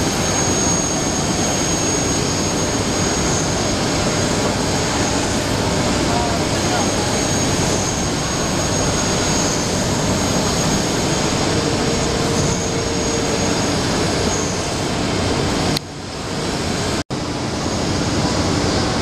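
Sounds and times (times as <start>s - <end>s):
machine rushing noise: 0.0s - 19.0s
thin high whine: 0.0s - 19.0s.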